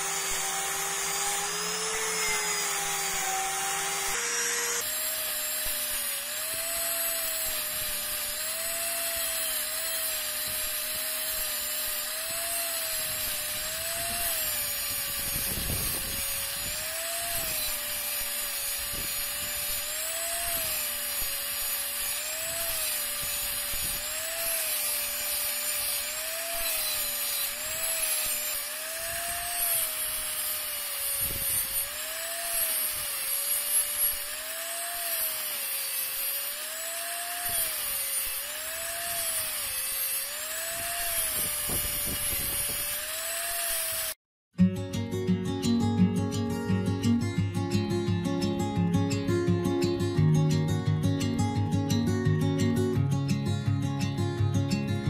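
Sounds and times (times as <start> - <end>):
angle grinder grinding metal: 0.0 - 44.2.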